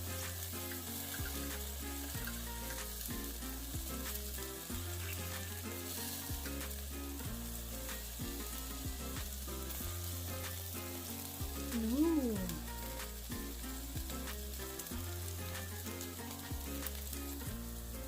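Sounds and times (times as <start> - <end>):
background music: 0.0 - 18.0
meat sizzling on a grill: 0.0 - 18.0.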